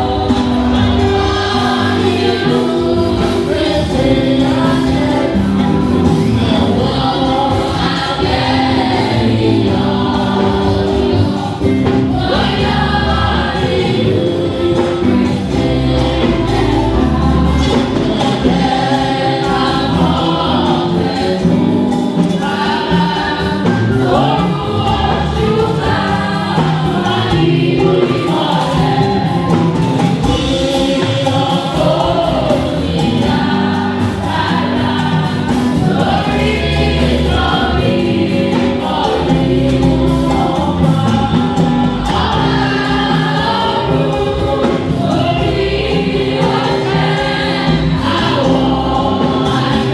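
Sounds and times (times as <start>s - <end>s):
choir singing gospel: 0.0s - 49.9s
instrumental accompaniment: 0.0s - 49.9s.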